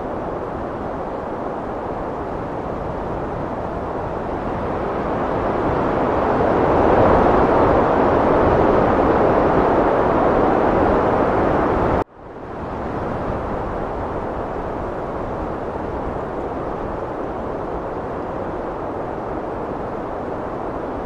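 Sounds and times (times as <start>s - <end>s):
heavy wind blowing: 0.0s - 21.0s.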